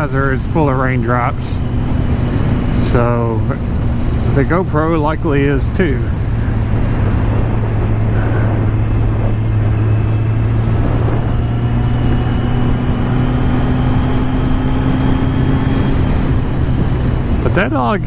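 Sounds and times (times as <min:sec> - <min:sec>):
higher engine tone rising: 0:00.0 - 0:18.0
motorcycle engine running: 0:00.0 - 0:18.0
wind noise on microphone: 0:00.0 - 0:18.0.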